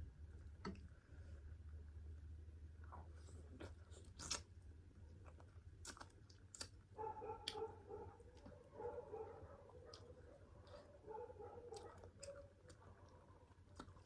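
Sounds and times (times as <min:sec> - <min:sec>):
soft chewing: 0:00.3 - 0:14.0.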